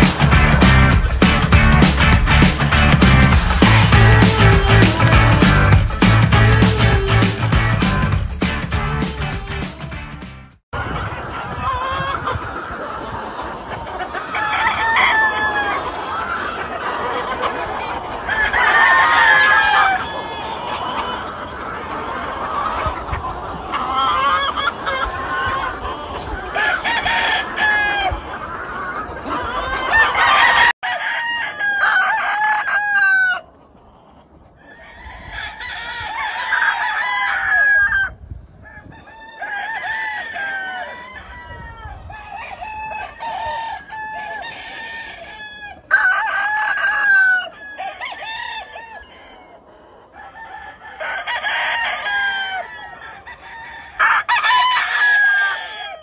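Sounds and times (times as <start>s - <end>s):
roosters crowing: 0.0s - 10.0s, 13.8s - 21.4s, 22.2s - 33.6s, 34.6s - 56.0s
chickens clucking: 0.0s - 56.0s.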